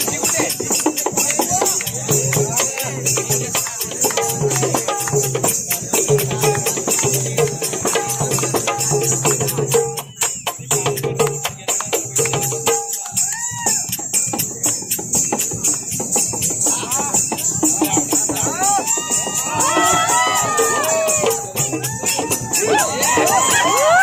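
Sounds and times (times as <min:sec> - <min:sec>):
fast hand drum rhythm: 0:00.0 - 0:24.0
jingling percussion: 0:00.0 - 0:24.0.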